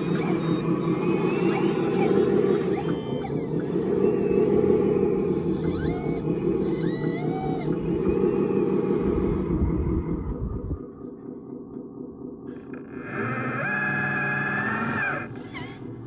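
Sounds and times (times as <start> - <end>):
electric motor whine: 0.0 - 10.8, 12.5 - 16.0
low motor rumble: 0.0 - 16.0.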